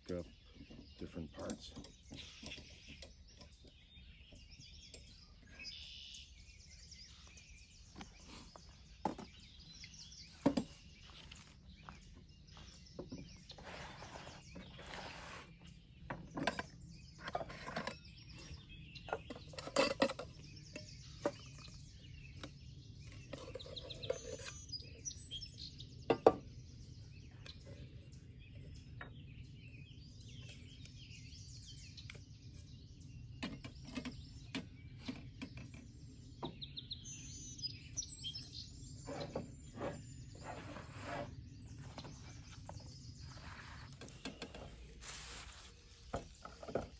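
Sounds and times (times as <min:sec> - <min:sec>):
songbirds chirping and singing: 0:00.0 - 0:46.9.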